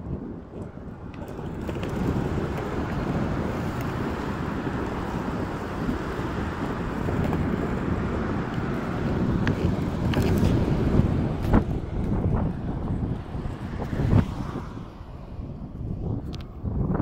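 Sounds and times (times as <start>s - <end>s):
skateboard wheels rolling on asphalt: 0.0s - 17.0s
wind buffeting microphone: 0.0s - 17.0s.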